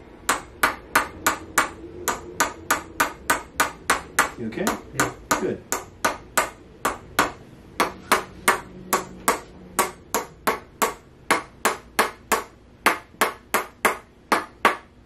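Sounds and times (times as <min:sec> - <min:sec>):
mallet tapping: 0:00.2 - 0:14.9.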